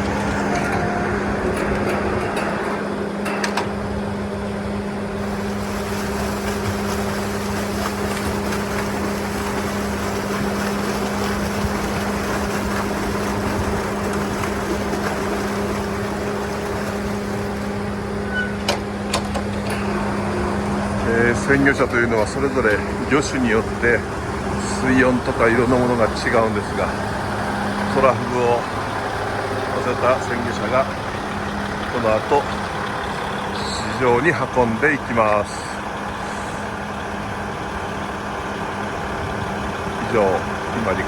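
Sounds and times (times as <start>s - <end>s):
motor humming: 0.0s - 41.0s.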